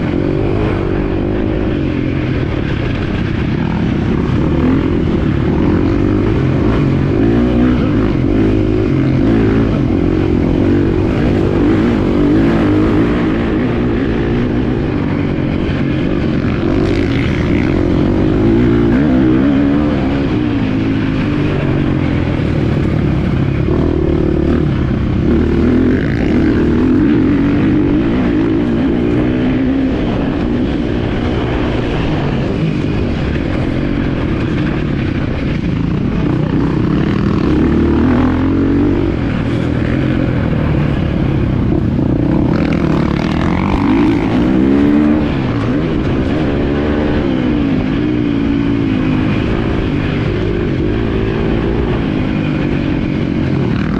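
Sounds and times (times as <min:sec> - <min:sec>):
motocross bike engine: 0:00.0 - 0:53.9.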